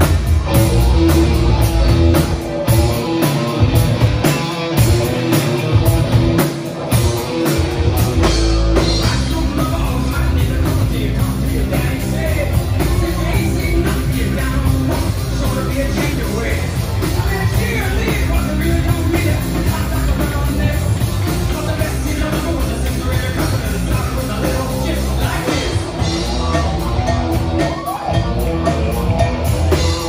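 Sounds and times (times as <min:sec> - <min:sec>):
bass guitar: 0:00.0 - 0:30.0
drum kit: 0:00.0 - 0:30.0
electric guitars: 0:00.0 - 0:30.0.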